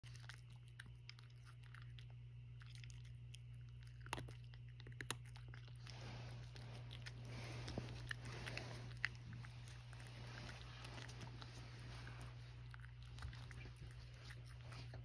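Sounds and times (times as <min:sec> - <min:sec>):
cat crunching dry kibble: 0:00.0 - 0:15.0
steady low hum: 0:00.0 - 0:15.0.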